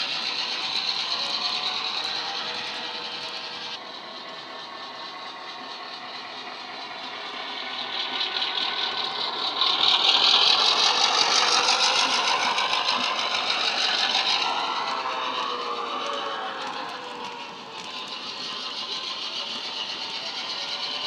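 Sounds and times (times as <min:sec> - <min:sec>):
diesel locomotive engine sound: 0:00.0 - 0:21.0.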